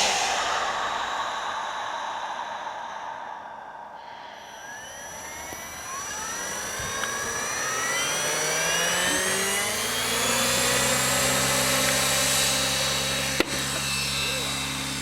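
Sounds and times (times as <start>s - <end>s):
rc helicopter whine: 0.0s - 15.0s.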